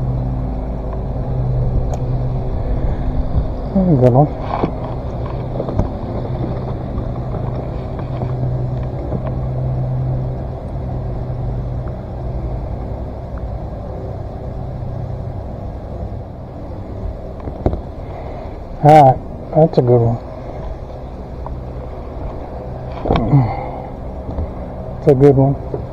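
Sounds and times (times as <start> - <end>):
boat motor humming: 0.0 - 25.9
low rumble: 0.0 - 25.9.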